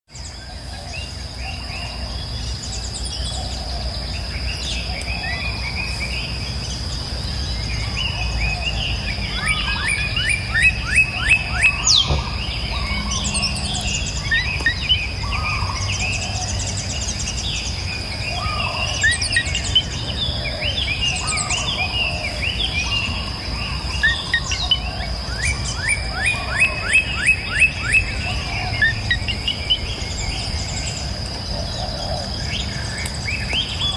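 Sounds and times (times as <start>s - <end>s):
birds chirping and calling: 0.1s - 33.9s.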